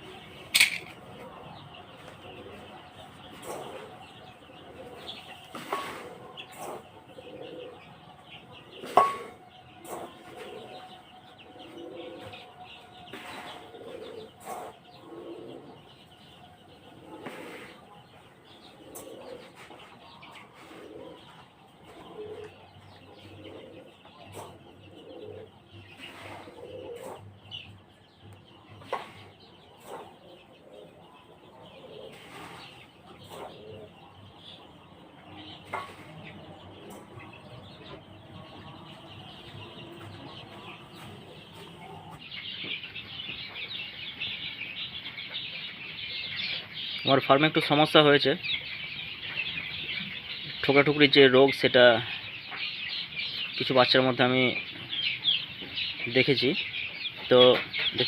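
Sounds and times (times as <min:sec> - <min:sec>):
chicks calling: 0:00.0 - 0:58.0.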